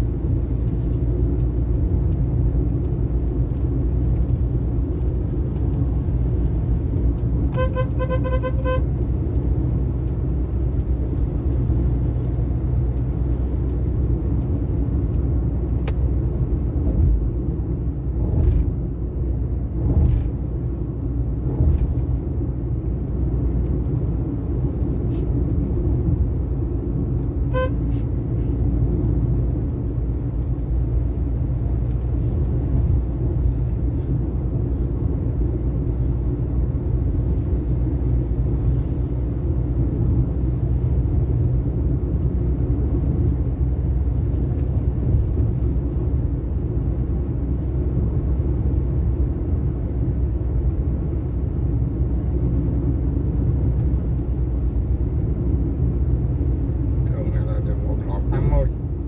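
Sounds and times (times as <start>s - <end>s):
vehicle rumbling on highway: 0.0s - 59.0s.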